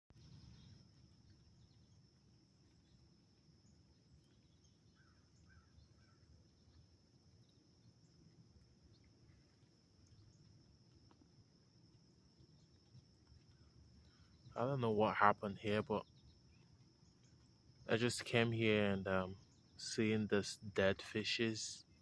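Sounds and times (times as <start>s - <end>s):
faint bird chirps: 0.1s - 22.0s.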